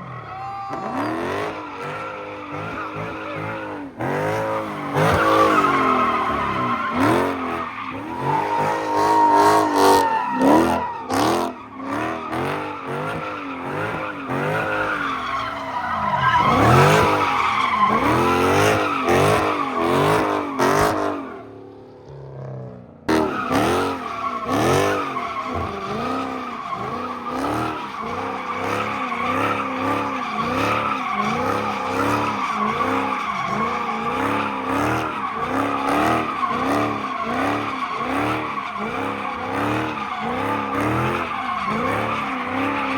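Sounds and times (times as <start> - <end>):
car engine revving: 0.7 - 22.1, 23.0 - 42.9
tyres squealing: 0.8 - 20.9, 23.3 - 42.9.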